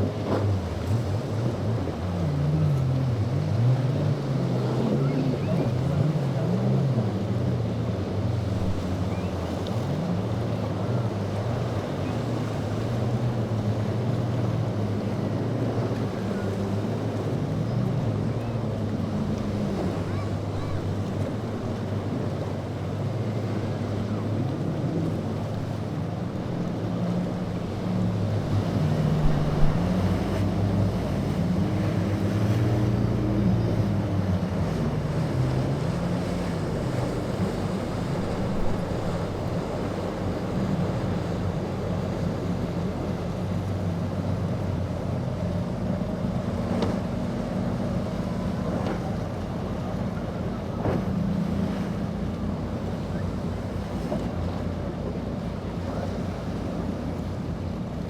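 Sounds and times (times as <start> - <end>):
wind on microphone: 0.0 - 51.1
boat engines running: 0.0 - 58.0
waves: 0.0 - 58.0.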